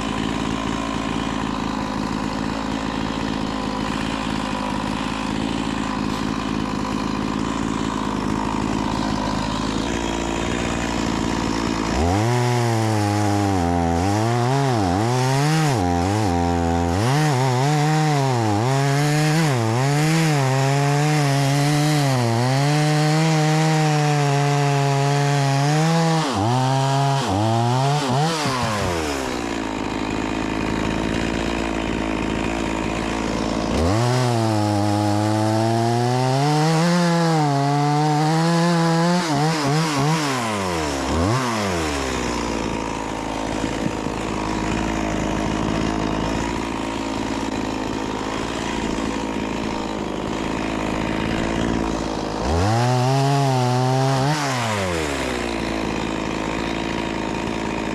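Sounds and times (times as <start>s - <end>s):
chainsaw cutting a log: 0.0s - 57.9s.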